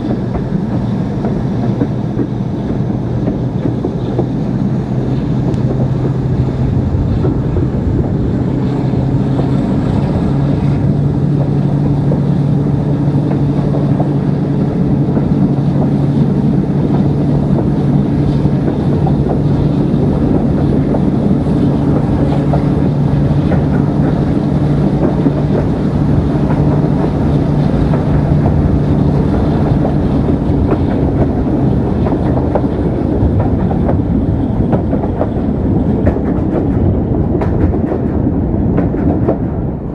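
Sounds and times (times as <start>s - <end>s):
locomotive diesel engine drone: 0.0s - 39.9s
train wheels on rails: 0.0s - 39.9s
wind buffeting microphone: 0.0s - 39.9s.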